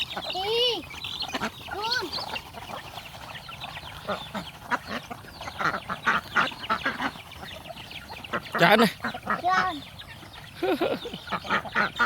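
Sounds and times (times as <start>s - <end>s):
ducks calling: 0.0s - 12.0s.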